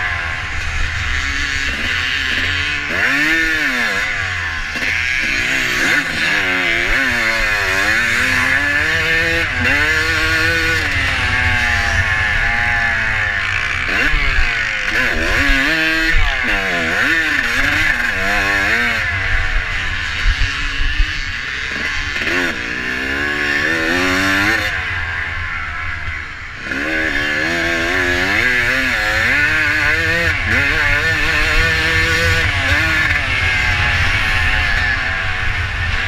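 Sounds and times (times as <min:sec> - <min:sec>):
motorcycle engine revving: 0:00.0 - 0:36.0
steady rushing noise: 0:00.0 - 0:36.0.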